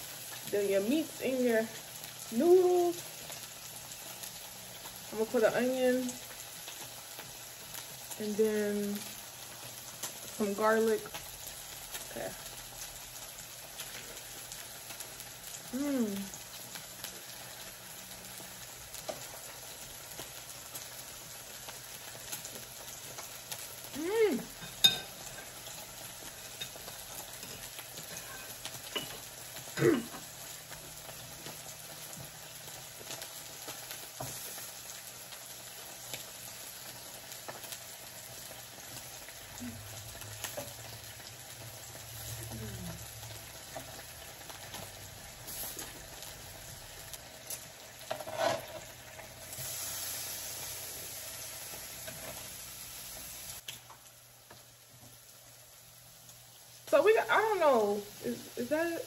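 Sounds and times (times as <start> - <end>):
meat sizzling on griddle: 0.0 - 59.0.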